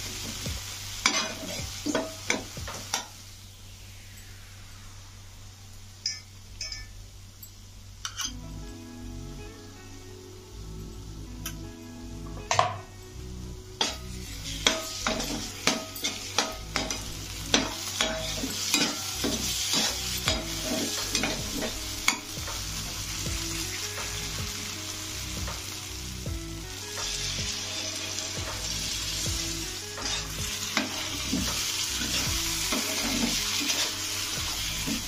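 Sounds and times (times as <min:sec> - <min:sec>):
food sizzling in a pan: 0:00.0 - 0:08.3, 0:09.1 - 0:35.0.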